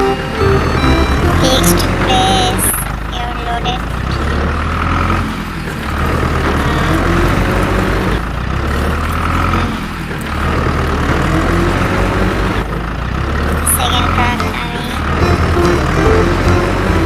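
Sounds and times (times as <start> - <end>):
heavy vehicle engine under load: 0.0 - 17.0.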